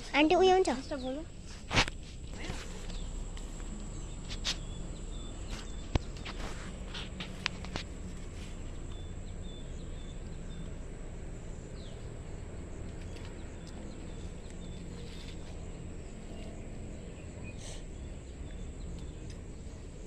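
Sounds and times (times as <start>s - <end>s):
leafy plants rustling: 0.0s - 20.0s
steady low rumble: 0.0s - 20.0s.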